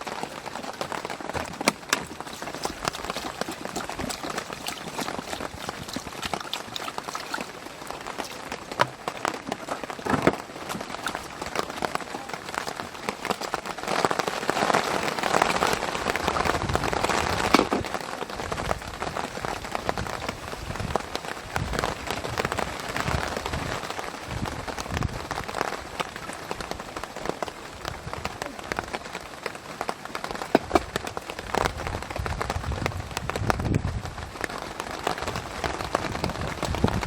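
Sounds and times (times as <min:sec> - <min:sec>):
rain pattering: 0:00.0 - 0:37.0.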